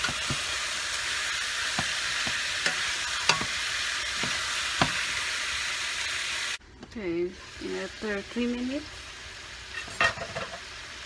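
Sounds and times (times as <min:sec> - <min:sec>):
chicken sizzling in pot: 0:00.0 - 0:11.0.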